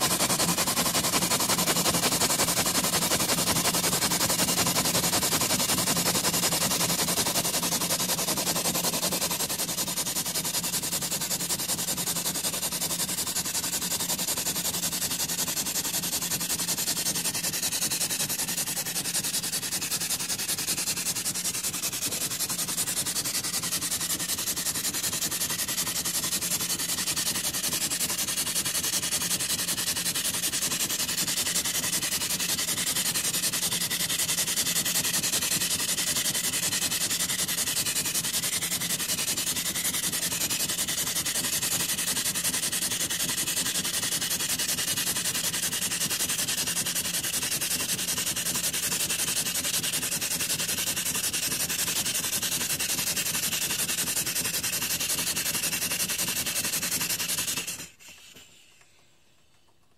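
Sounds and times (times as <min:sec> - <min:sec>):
steam pump hissing: 0:00.0 - 0:59.1.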